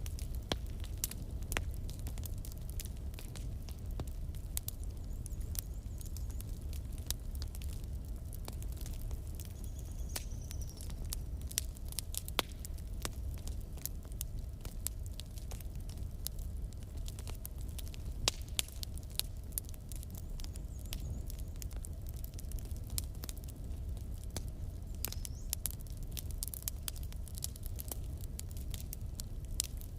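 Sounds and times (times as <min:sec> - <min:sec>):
low rumble of flames: 0:00.0 - 0:29.9
wood fire crackling and popping: 0:00.0 - 0:29.9.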